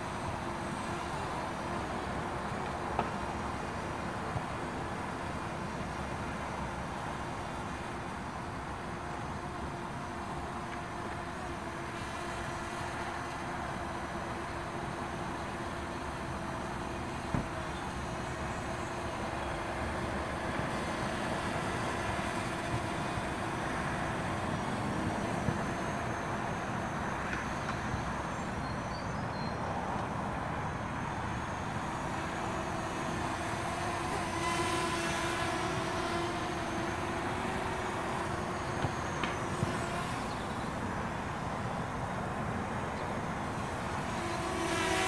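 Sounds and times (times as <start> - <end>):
drone propellers droning: 0.0 - 45.0.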